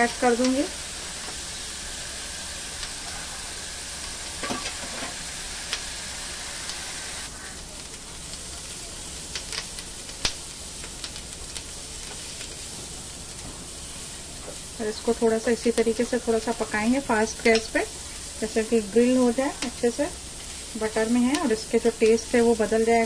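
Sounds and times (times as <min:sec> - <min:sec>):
vegetables sizzling in butter: 0:00.0 - 0:23.0.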